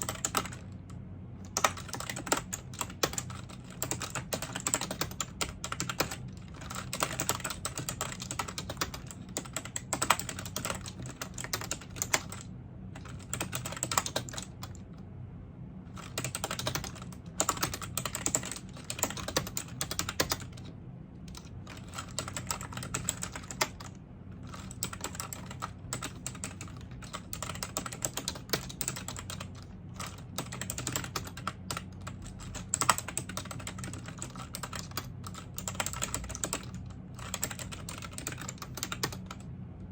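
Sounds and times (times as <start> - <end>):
typing on computer keyboard: 0.0 - 0.8, 1.4 - 14.8, 16.0 - 20.7, 21.3 - 39.4
faint low hum: 0.0 - 39.9.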